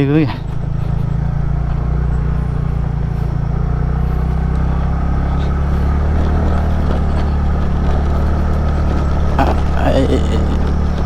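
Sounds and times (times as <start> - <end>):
motorcycle engine droning: 0.0 - 11.0
road and wind noise: 0.0 - 11.0.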